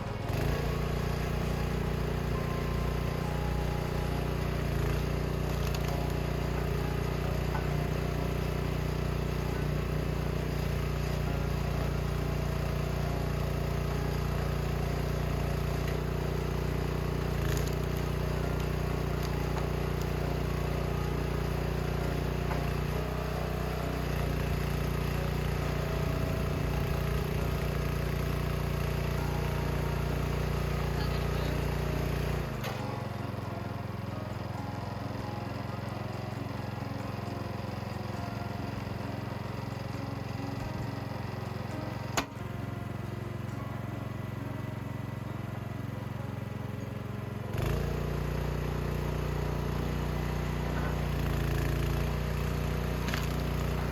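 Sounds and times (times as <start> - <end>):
engine droning steadily: 0.0 - 53.9.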